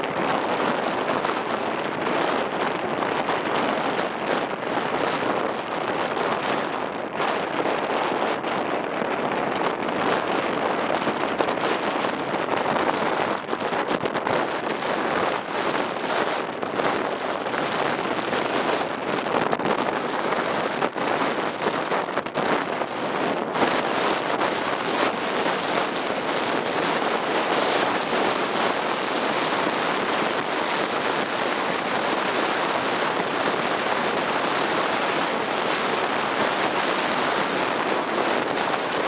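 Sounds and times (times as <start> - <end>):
strong wind blasting microphone: 0.0 - 39.0
wind buffeting knocks: 0.0 - 39.0.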